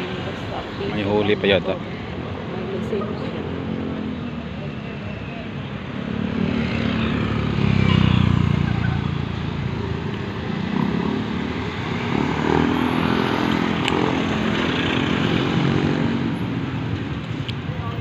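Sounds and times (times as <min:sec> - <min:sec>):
motorcycles passing: 0:00.0 - 0:18.0
street traffic: 0:00.0 - 0:18.0.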